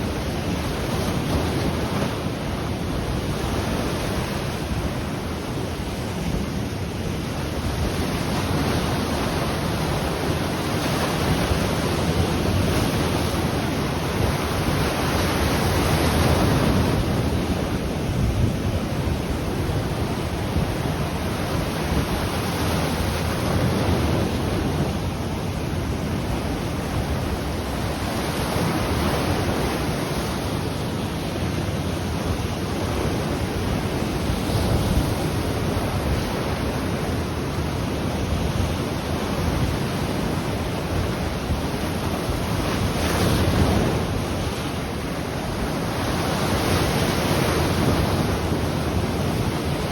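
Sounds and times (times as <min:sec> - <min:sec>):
ocean waves on shore: 0:00.0 - 0:49.9
wind buffeting microphone: 0:00.0 - 0:49.9.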